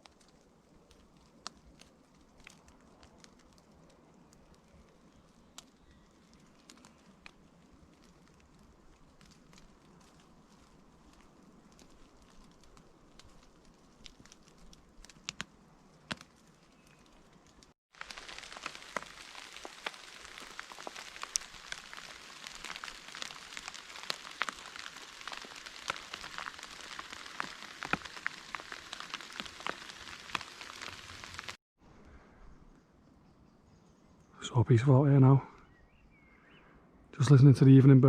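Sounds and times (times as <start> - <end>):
rain falling on woods: 0.0 - 31.6.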